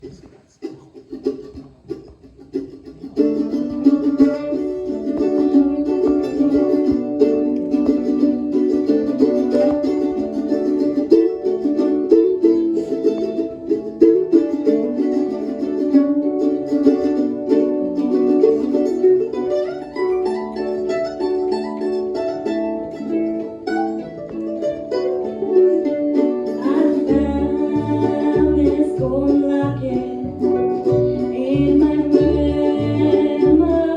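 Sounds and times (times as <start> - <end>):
bluegrass tune on harp mandolin bass: 0.0 - 33.9.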